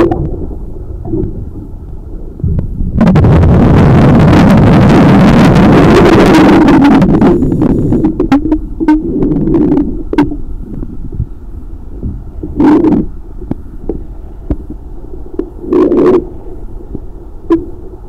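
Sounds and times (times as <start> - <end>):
exhaled bubbles underwater: 0.0 - 11.3, 12.0 - 13.2, 15.4 - 17.7
low underwater rumble: 0.0 - 18.0.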